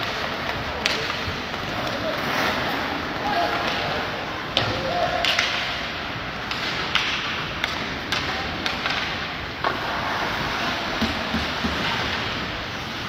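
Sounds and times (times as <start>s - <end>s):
hockey sticks clacking on puck: 0.0s - 13.0s
skate blades scraping ice: 0.0s - 13.0s.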